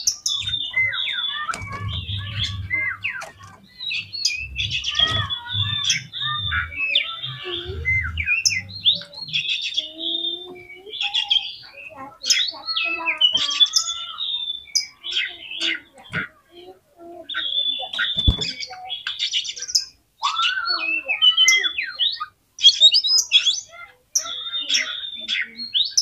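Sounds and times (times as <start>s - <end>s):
bird singing varied song: 0.0s - 26.0s.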